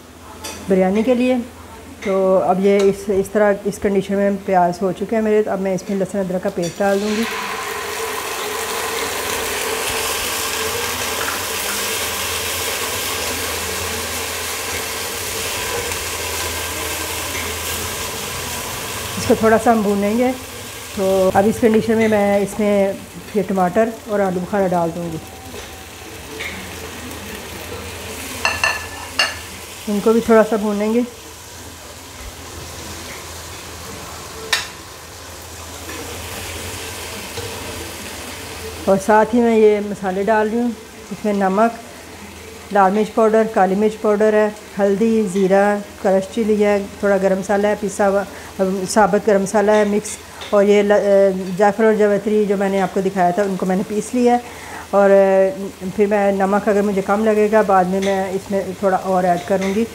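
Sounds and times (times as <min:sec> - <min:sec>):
food sizzling in hot oil: 0:06.2 - 0:59.9.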